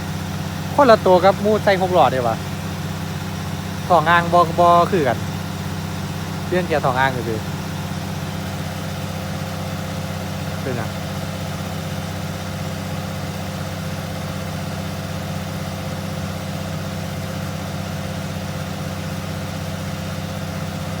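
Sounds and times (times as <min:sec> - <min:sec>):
excavator diesel engine idling: 0:00.0 - 0:21.0.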